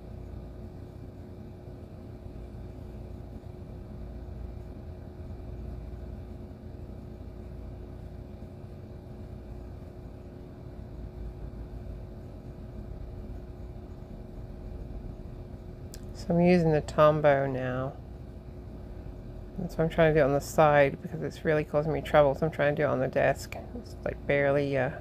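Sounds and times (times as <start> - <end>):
low rumble with hum: 0.0 - 25.0.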